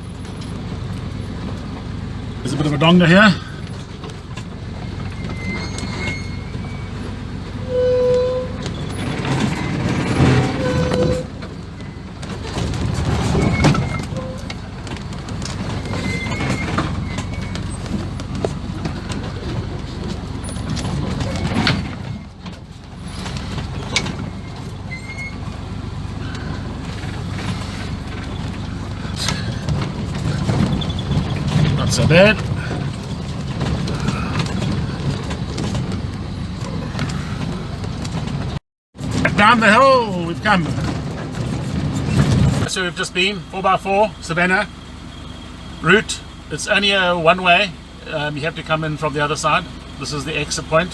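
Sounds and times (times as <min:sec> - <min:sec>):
vehicle knocks and rattles: 0:00.0 - 0:43.3
off-road vehicle engine running: 0:00.0 - 0:50.9.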